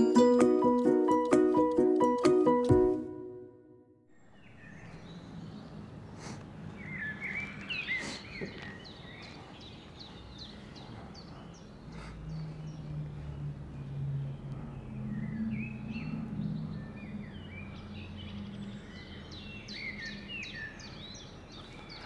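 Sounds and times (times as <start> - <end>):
small birds chirping: 4.2 - 22.0.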